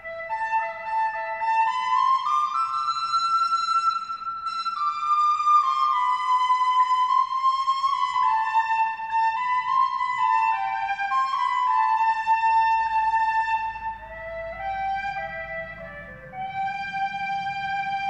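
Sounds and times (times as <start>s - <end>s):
slow flute-like melody: 0.0s - 18.0s.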